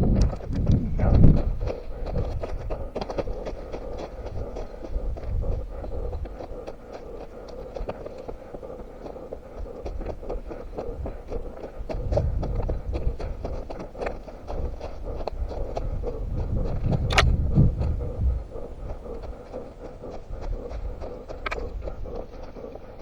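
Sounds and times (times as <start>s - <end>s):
running footsteps: 0.0s - 23.0s.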